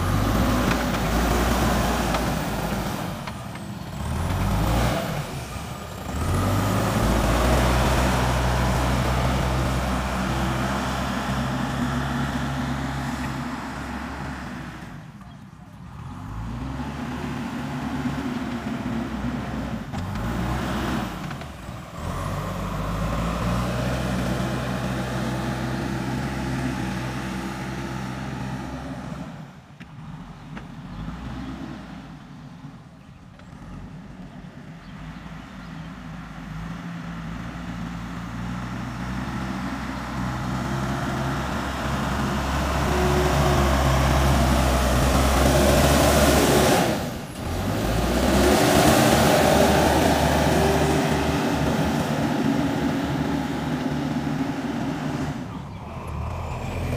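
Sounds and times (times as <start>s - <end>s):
backhoe diesel engine working: 0.0s - 56.9s.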